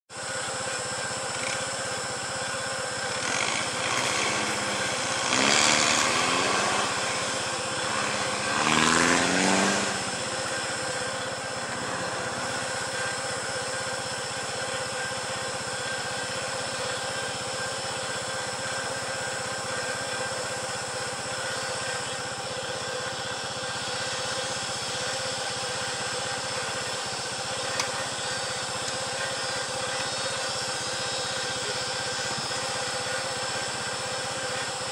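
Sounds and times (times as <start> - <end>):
vehicle engine idling: 0.1 - 34.9.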